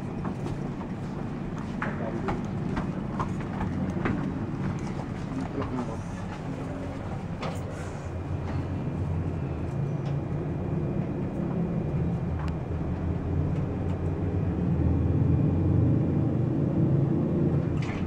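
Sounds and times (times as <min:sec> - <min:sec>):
elevator rumble and hum: 0:00.0 - 0:18.0.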